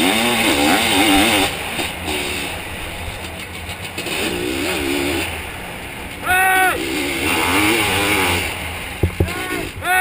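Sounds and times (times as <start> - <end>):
two-stroke engine revving: 0.0 - 9.8.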